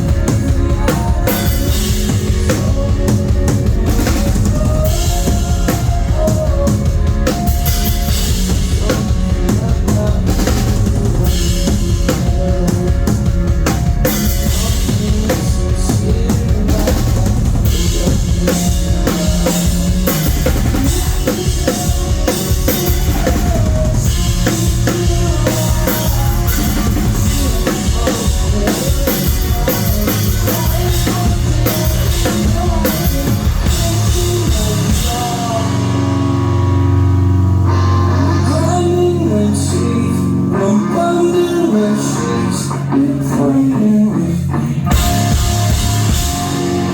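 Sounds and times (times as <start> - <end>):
distorted guitars and bass: 0.0 - 46.9
drum kit: 0.0 - 46.9.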